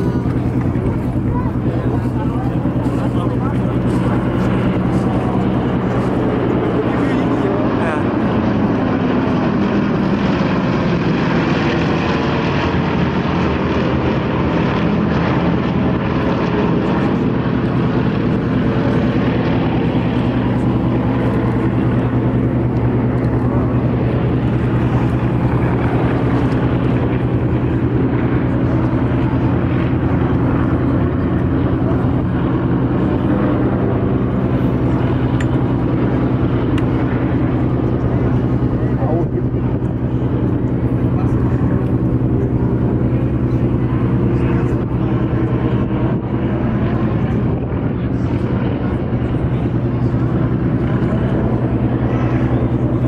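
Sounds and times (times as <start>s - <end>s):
propeller aircraft droning overhead: 0.0s - 53.0s.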